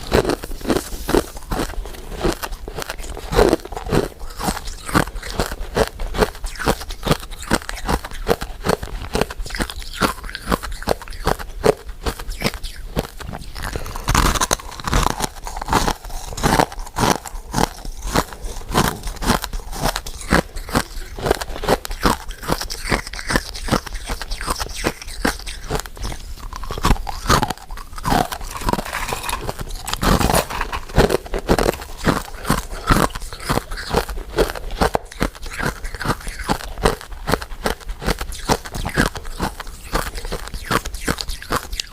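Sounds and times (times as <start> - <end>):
crunchy chewing of sweets: 0.0 - 41.9.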